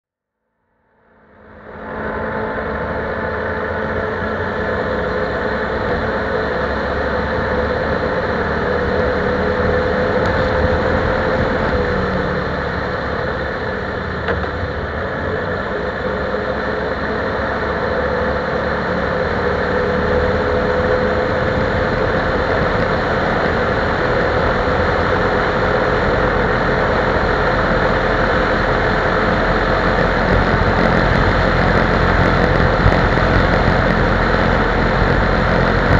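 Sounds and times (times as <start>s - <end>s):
atv engine running: 1.0s - 35.9s.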